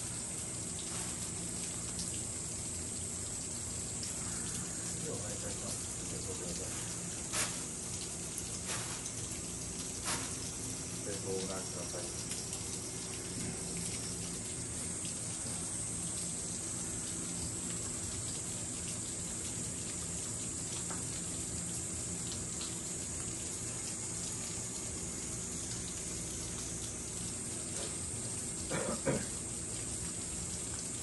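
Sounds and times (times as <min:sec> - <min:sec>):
rainwater running: 0:00.0 - 0:31.0
steady rain: 0:00.0 - 0:31.0.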